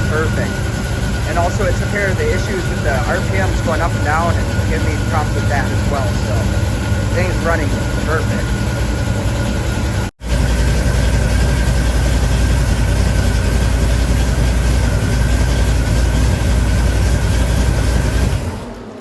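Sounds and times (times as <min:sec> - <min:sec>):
car engine idling: 0:00.0 - 0:19.0
thin high whine: 0:00.0 - 0:19.0.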